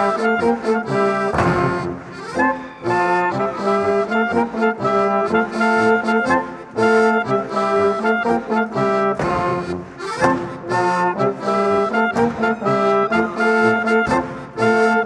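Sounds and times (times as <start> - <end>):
accordion: 0.0 - 15.0
brass band playing folk dance: 0.0 - 15.0.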